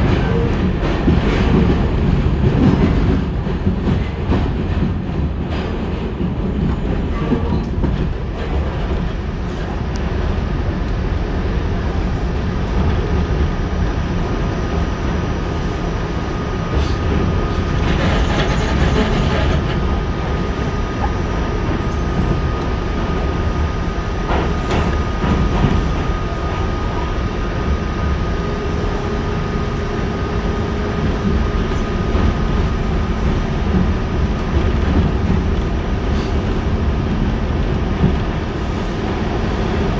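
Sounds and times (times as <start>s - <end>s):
subway wheels rumbling on rails: 0.0s - 39.9s.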